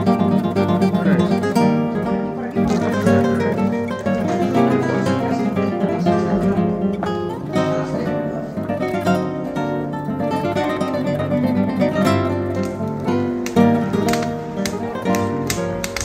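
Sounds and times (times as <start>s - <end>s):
flamenco guitar music: 0.0s - 16.0s.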